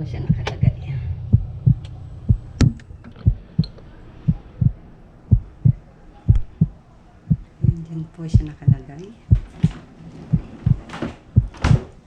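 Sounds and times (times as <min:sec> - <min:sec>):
heartbeat thumps: 0:00.0 - 0:12.0.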